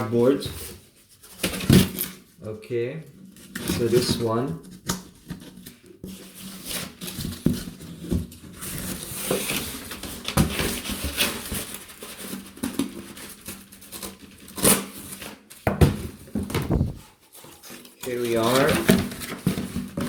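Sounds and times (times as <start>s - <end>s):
cardboard scraping and rustling: 0.0s - 2.3s, 3.3s - 20.0s.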